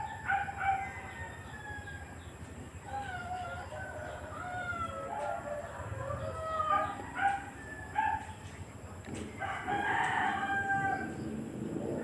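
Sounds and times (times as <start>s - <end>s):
rooster crowing: 0.0s - 2.2s, 2.8s - 8.4s, 9.4s - 11.4s.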